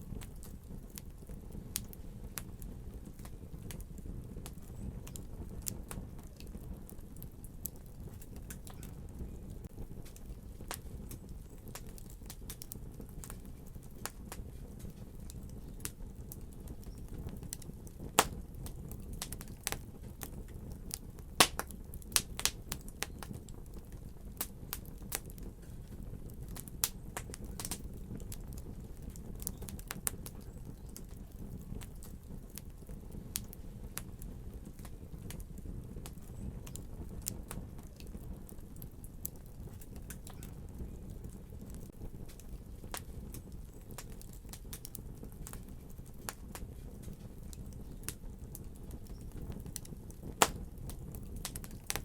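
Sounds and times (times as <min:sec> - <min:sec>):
fire crackling and popping: 0:00.0 - 0:52.0.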